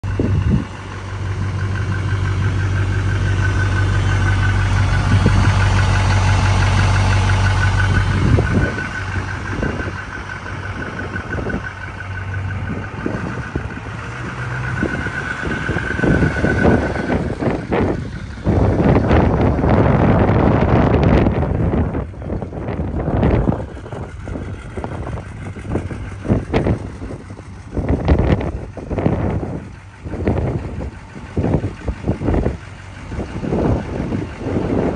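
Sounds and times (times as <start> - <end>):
pulsing high whine: 0.0 - 34.9
truck engine running: 0.0 - 34.9.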